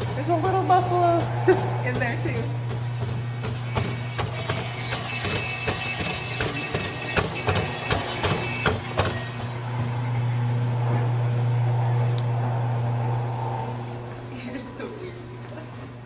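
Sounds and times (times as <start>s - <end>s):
faint motor whine: 0.0s - 16.0s
steady low hum: 0.0s - 16.0s.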